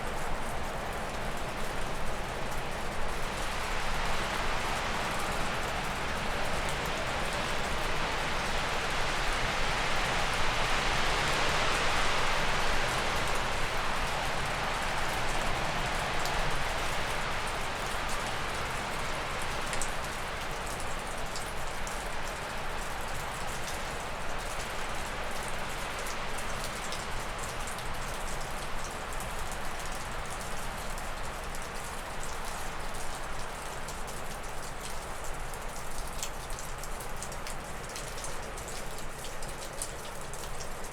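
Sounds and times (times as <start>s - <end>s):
meltwater dripping off roof: 0.0s - 40.9s.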